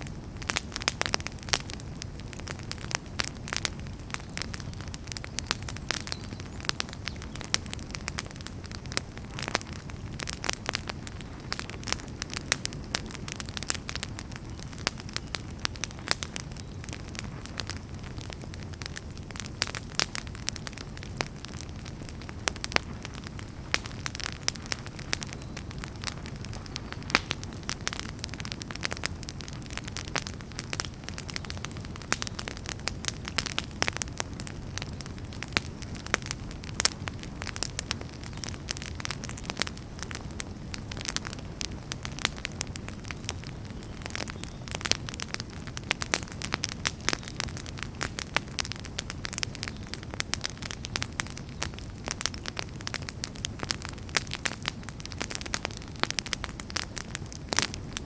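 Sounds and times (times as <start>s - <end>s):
campfire flames rumbling: 0.0s - 58.0s
firewood crackling and popping: 0.0s - 58.0s.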